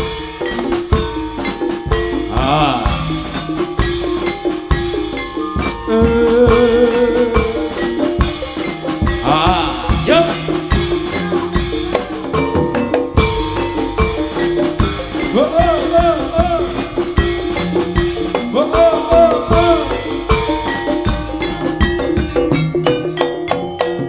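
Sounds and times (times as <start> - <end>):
drums: 0.0 - 24.0
metal gong percussion: 0.0 - 24.0
wavering melody line: 0.0 - 24.0.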